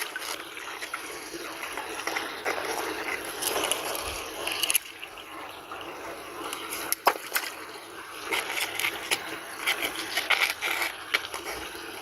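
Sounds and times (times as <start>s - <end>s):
water flowing: 0.0s - 12.0s.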